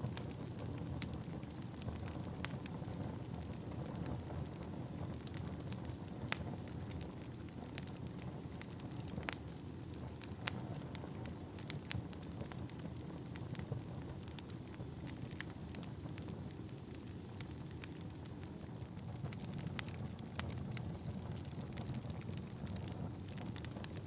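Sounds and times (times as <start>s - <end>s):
crackles and pops of burning wood: 0.0s - 24.0s
low rumble of flames: 0.0s - 24.0s.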